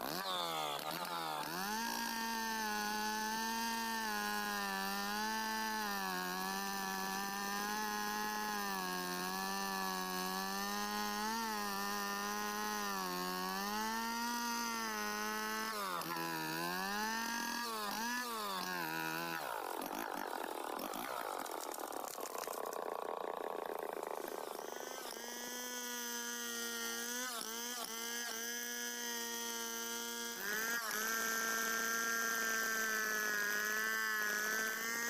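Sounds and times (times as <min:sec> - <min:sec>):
chainsaw cutting under load: 0:00.0 - 0:35.0.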